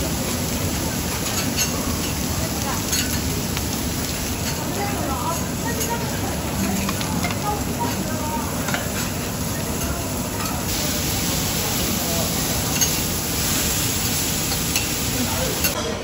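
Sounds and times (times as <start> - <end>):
food sizzling on griddle: 0.0 - 15.8.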